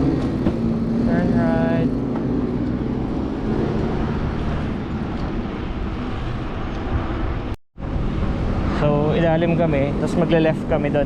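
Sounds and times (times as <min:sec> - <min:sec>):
passing traffic: 0:00.0 - 0:11.0.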